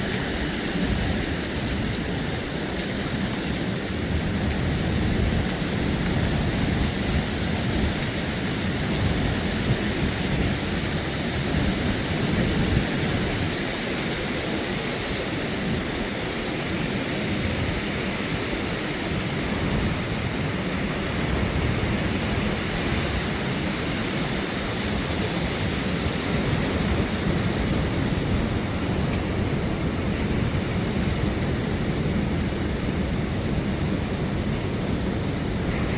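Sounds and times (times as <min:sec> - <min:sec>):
ocean surf: 0:00.0 - 0:35.9
rain: 0:00.0 - 0:35.9
wind: 0:00.0 - 0:35.9.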